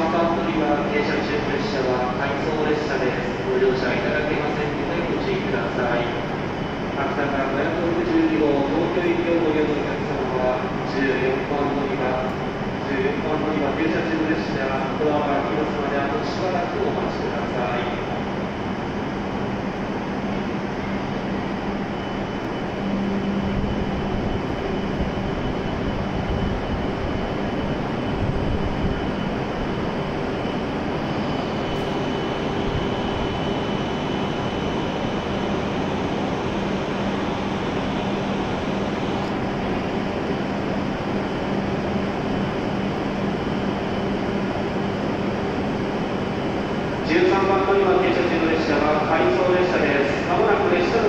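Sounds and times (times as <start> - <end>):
train blowers humming: 0.0 - 51.0.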